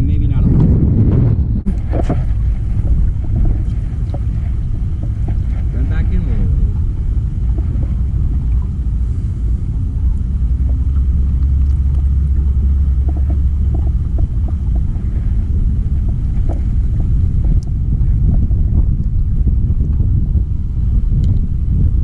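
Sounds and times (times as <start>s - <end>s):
boat motor rumbling: 0.0s - 22.0s.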